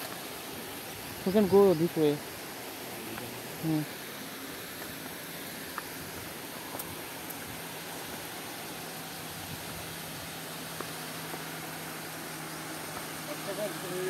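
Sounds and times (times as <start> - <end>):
low steady hum: 0.0 - 14.0
steady outdoor hiss: 0.0 - 14.0.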